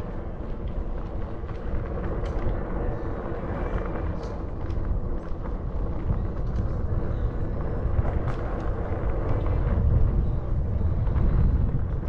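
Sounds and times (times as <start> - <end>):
bike tyres rumbling on trail: 0.0 - 12.0.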